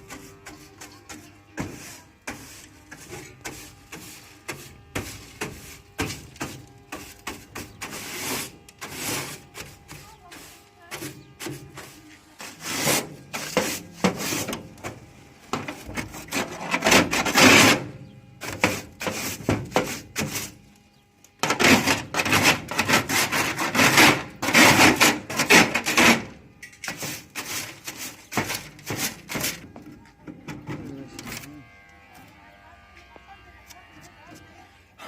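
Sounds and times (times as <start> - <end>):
abrasive scraping on door: 0.0 - 20.7, 21.4 - 32.2.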